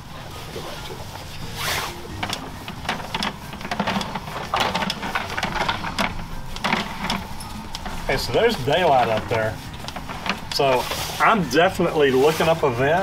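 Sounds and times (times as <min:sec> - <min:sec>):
cable scraping and clicking: 0:01.5 - 0:12.6.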